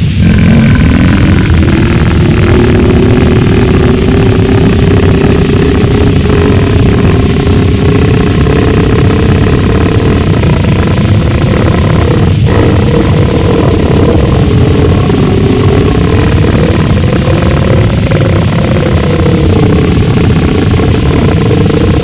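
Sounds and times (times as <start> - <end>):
droning pitch sliding upward: 0.0 - 22.0
harsh distorted noise: 0.0 - 22.0.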